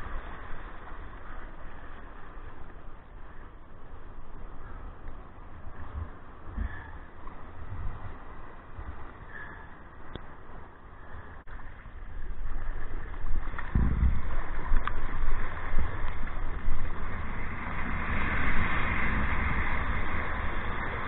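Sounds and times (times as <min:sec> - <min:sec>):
water rushing around kayak: 0:00.0 - 0:21.0.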